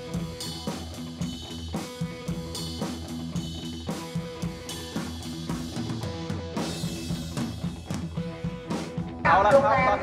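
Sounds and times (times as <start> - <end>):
music with drum beat: 0.0 - 10.0.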